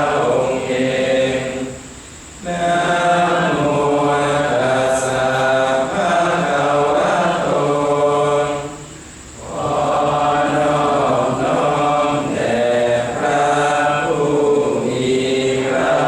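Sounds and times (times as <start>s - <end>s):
monks chanting together: 0.0s - 16.0s.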